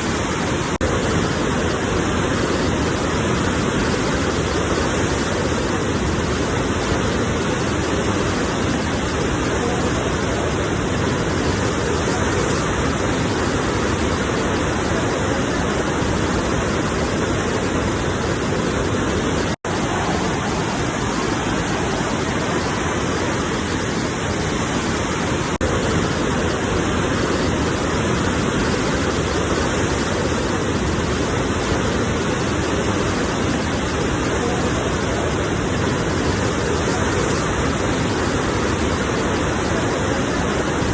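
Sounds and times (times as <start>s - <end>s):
sea waves rushing: 0.0s - 40.9s.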